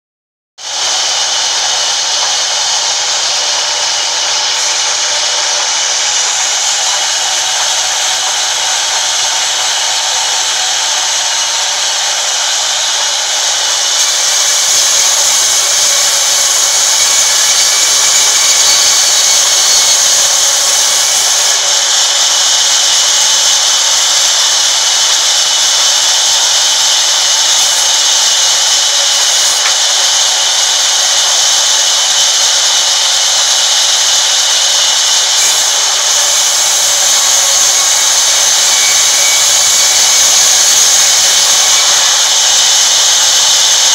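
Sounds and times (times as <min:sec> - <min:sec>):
band saw running: 0:00.6 - 0:43.9
saw ripping a plank: 0:00.7 - 0:43.9.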